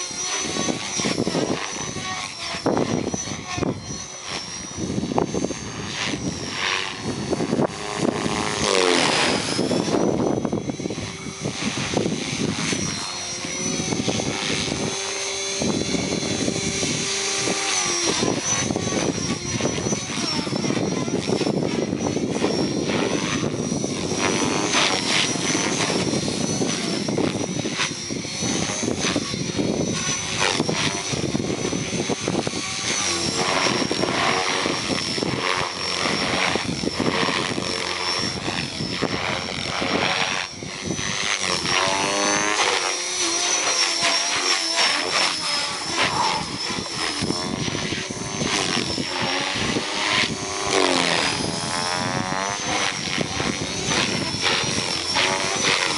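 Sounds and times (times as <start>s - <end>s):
rc helicopter motor whine: 0.0s - 55.9s
rotor blades whooshing: 0.0s - 55.9s.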